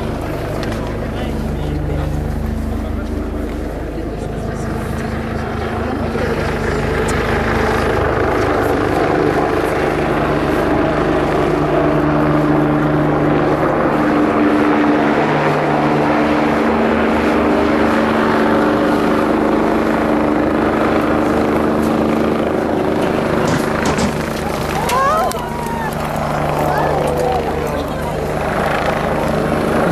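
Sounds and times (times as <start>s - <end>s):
helicopter engine tone: 0.0s - 29.9s
helicopter rotor beating: 0.0s - 29.9s.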